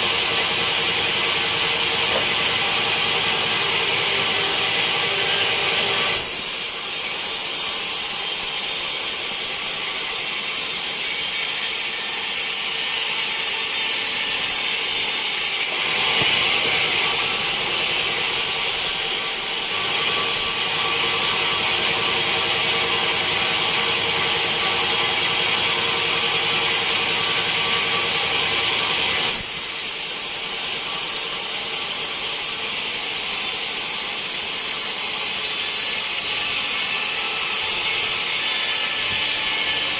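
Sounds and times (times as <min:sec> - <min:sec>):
band saw cutting log: 0:00.0 - 0:39.9
sawmill machine running: 0:00.0 - 0:39.9.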